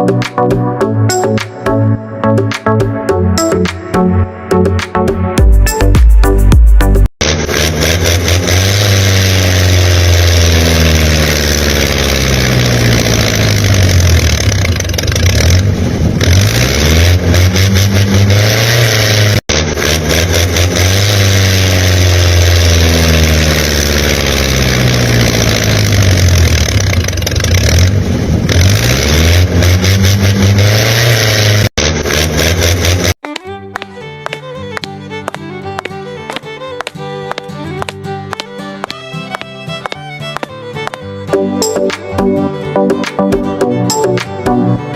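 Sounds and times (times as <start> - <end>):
engine revving: 6.3 - 44.9.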